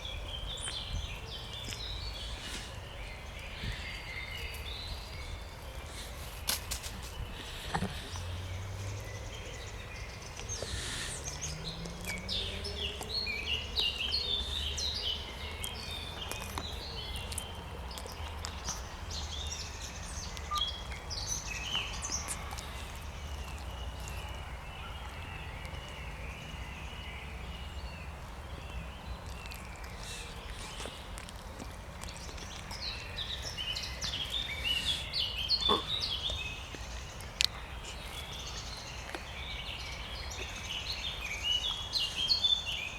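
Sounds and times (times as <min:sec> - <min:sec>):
songbirds chirping and twittering: 0:00.0 - 0:42.9.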